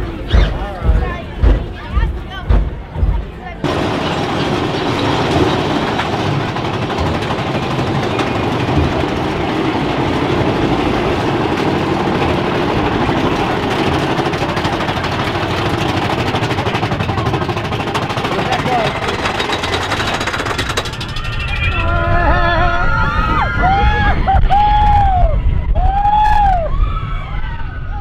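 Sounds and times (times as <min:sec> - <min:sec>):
roller coaster rattling rumble: 0:00.0 - 0:28.0.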